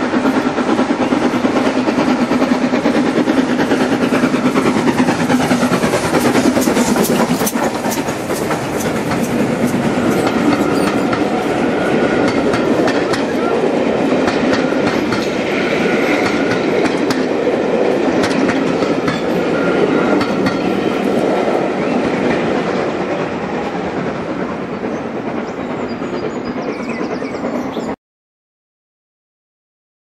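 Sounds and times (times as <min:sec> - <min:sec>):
train wheels clicking over rail joints: 0:00.0 - 0:27.9.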